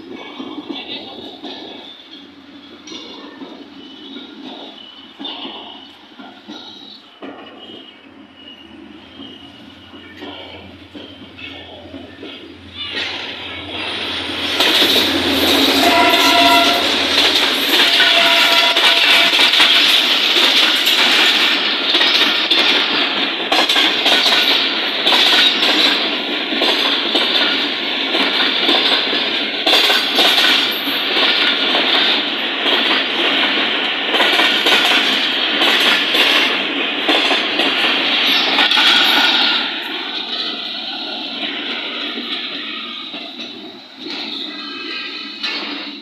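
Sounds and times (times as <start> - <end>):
train wheels rumbling on rails: 0.0 - 46.0
wheels clicking over rail joints: 0.0 - 46.0.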